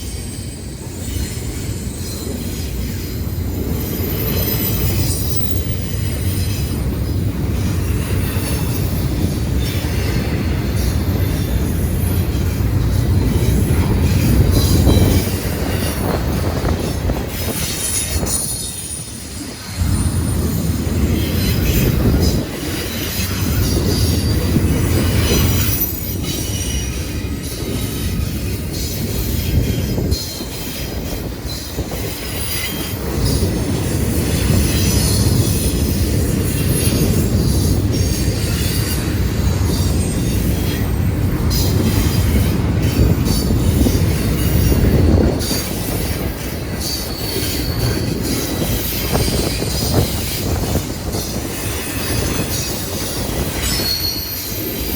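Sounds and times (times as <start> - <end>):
clickety-clack over rail joints: 0.0 - 54.9
freight train wheels rumbling: 0.0 - 54.9
wheel squeals: 0.0 - 54.9.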